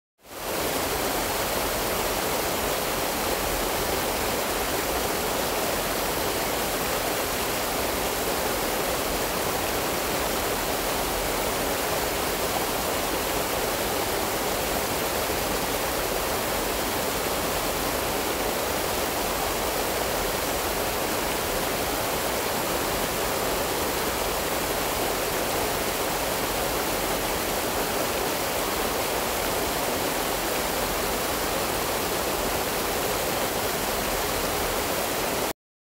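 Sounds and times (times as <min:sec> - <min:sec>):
stream rushing over stones: 0:00.3 - 0:35.5.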